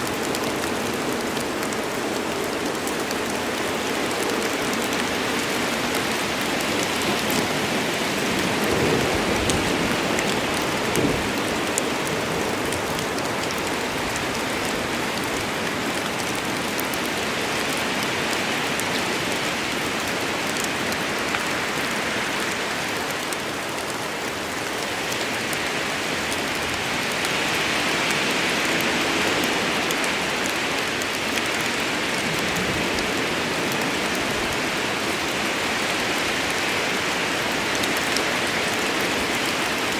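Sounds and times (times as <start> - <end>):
heavy rain in forest: 0.0 - 39.9.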